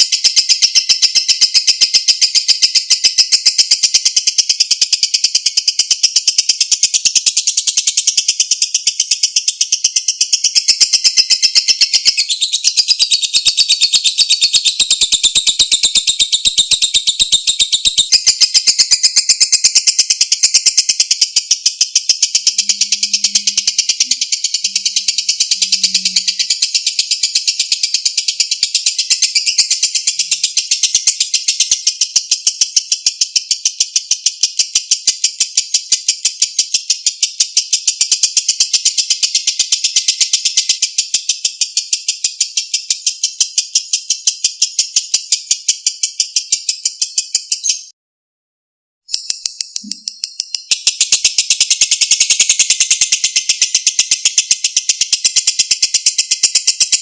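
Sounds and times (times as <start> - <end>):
bird chattering trill: 0.0 - 47.9, 49.1 - 57.0.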